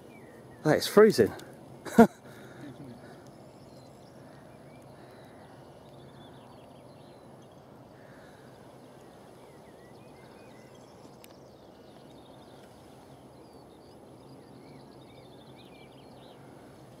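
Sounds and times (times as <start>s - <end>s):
distant birds chirping: 0.0s - 17.0s
low outdoor hiss: 0.0s - 17.0s.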